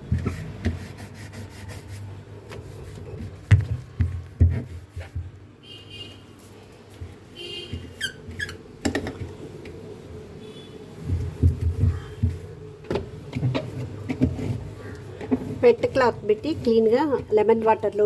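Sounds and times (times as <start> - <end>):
damp cloth wiping and squeaking: 0.0 - 5.3, 6.3 - 12.7, 13.3 - 18.0.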